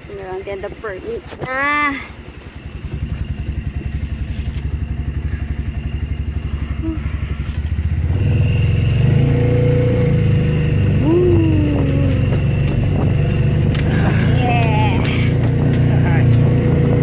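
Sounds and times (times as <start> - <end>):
atv engine running: 0.0 - 17.0
steady engine whine: 0.0 - 17.0.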